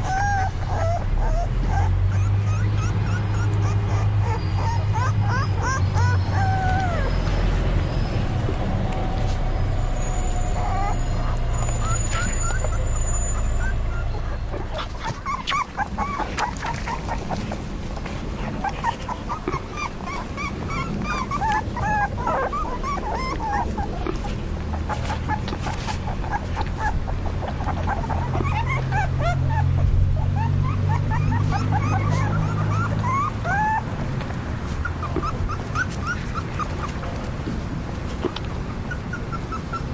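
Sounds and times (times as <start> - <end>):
puppies whimpering and yelping: 0.0 - 39.9.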